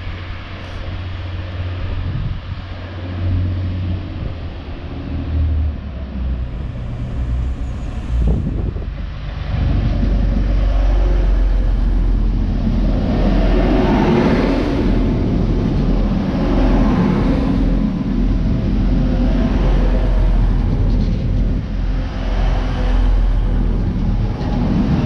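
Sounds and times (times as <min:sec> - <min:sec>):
diesel train passing: 0:00.0 - 0:25.0
wheels rumbling on rails: 0:00.0 - 0:25.0.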